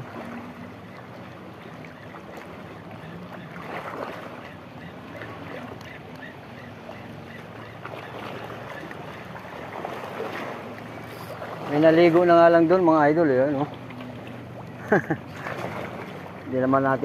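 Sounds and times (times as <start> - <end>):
water lapping on rocks: 0.0 - 17.0.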